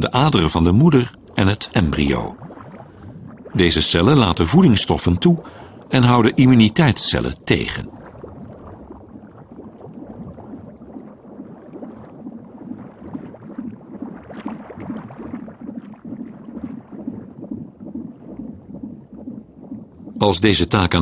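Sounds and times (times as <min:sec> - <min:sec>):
liquid gurgling: 0:00.0 - 0:21.0.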